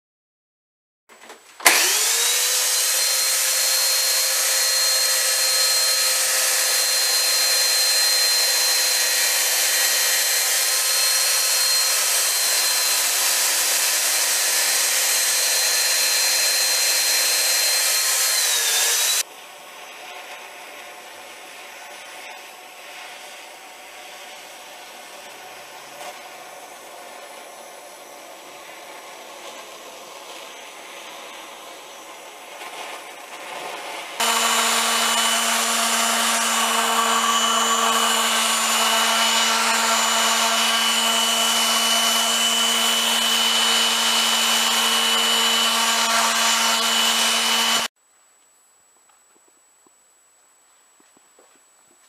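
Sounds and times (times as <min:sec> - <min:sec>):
electric chainsaw cutting wood: 0:01.6 - 0:48.0.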